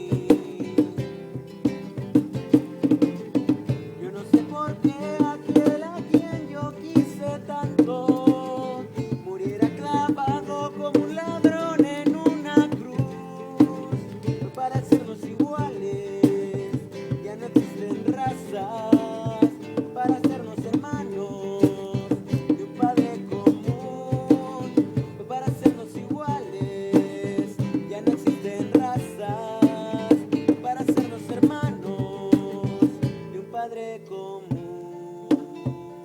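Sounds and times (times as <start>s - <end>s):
steady percussion beat: 0.0s - 33.3s
strummed guitar: 0.0s - 36.0s.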